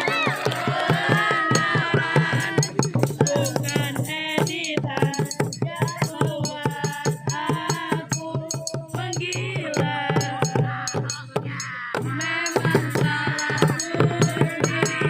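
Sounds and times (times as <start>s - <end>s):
percussion playing fast beat: 0.0s - 15.0s.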